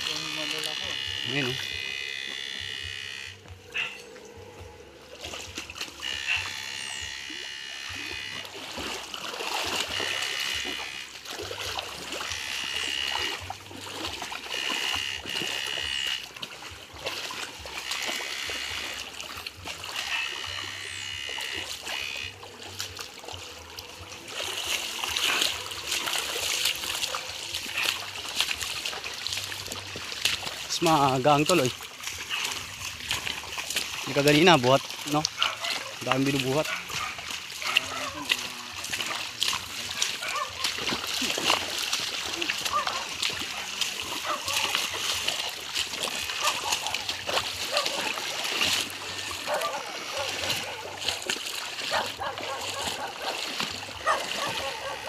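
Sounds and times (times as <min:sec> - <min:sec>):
electrofishing shocker buzzing: 0:00.0 - 0:51.9
water splashing and trickling: 0:00.0 - 0:55.0.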